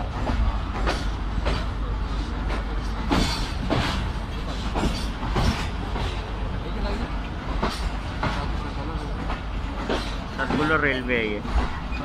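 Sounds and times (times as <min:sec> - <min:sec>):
train running rumble: 0:00.0 - 0:12.0
wheels clacking over rail joints: 0:00.0 - 0:12.0.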